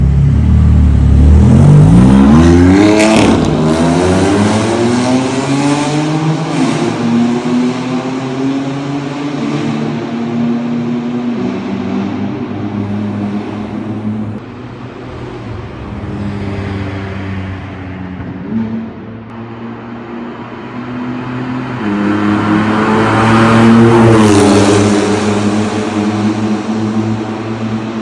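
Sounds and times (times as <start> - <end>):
car engine revving in tunnel: 0.0 - 28.0.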